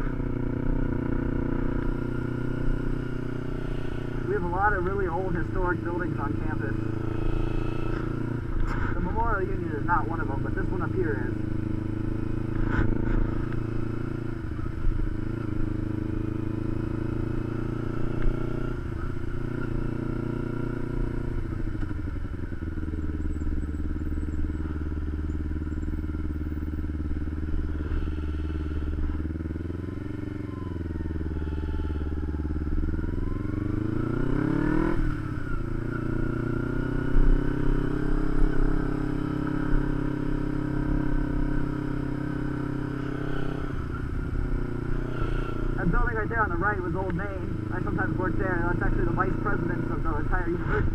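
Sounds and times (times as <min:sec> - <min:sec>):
motorcycle engine riding: 0:00.0 - 0:50.9.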